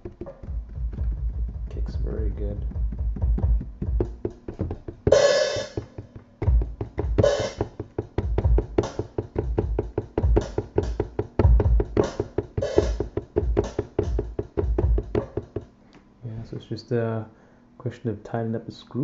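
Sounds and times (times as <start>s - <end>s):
drum hits: 0.0s - 15.7s.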